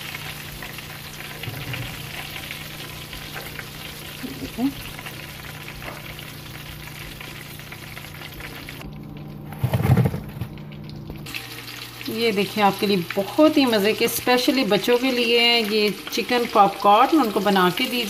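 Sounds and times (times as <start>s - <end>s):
oil sizzling in a frying pan: 0.0s - 9.6s, 10.4s - 18.0s.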